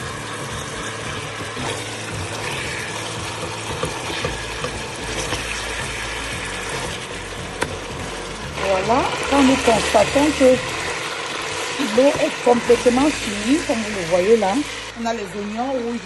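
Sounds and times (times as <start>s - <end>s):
meat sizzling in oil: 0.0s - 16.0s
wooden spatula stirring: 0.4s - 14.3s.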